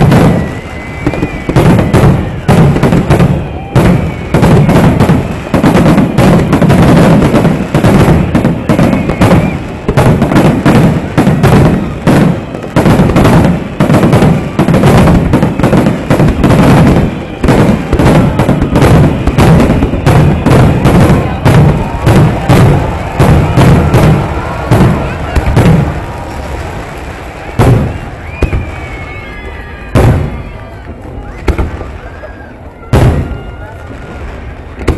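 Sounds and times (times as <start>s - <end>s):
fireworks booming and crackling: 0.0s - 34.9s.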